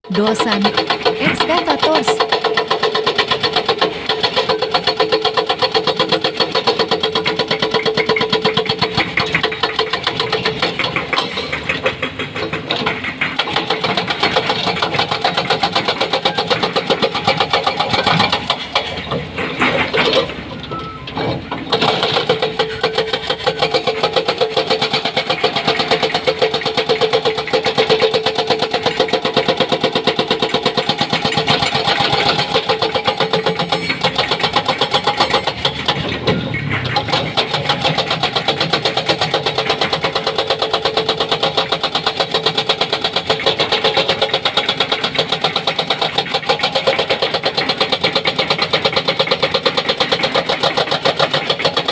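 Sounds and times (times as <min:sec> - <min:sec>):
excavator engine running: 0:00.1 - 0:51.9
hydraulic breaker hammering rock: 0:00.1 - 0:51.9.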